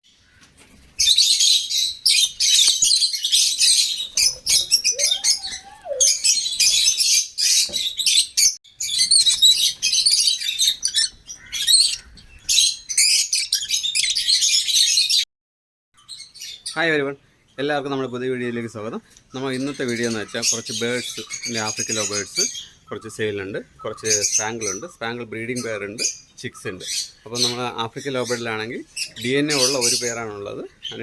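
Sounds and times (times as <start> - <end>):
parrots chirping and chattering: 0.3 - 15.2, 17.4 - 31.0.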